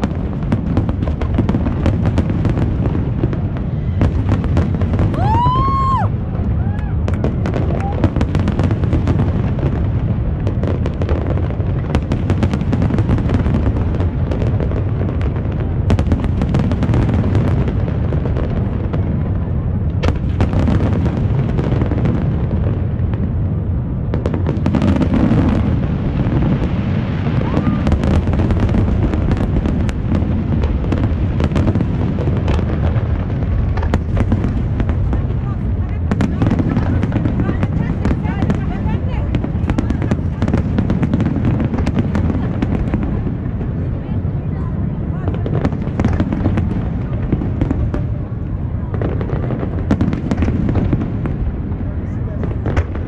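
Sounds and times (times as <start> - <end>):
sharp firework cracks: 0.0 - 43.8, 52.5 - 53.0
low rumble of firework bursts: 0.0 - 53.0.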